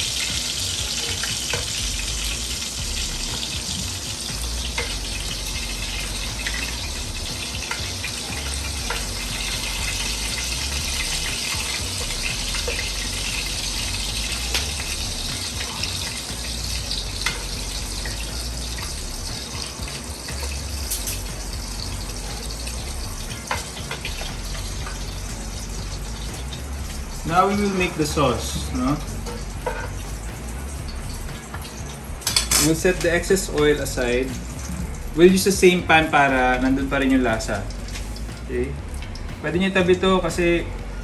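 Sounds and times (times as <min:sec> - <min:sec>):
meatballs sizzling in oil: 0:00.0 - 0:39.5.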